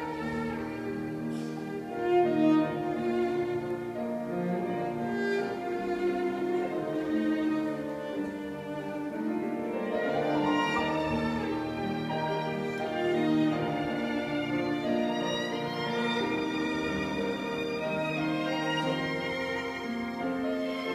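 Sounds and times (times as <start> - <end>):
violin cello and piano playing: 0.0 - 20.9.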